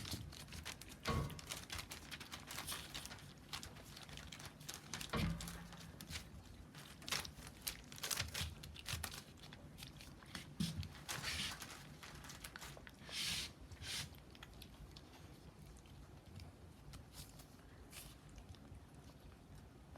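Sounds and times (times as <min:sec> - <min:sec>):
puppies moving and rustling: 0:00.0 - 0:19.9.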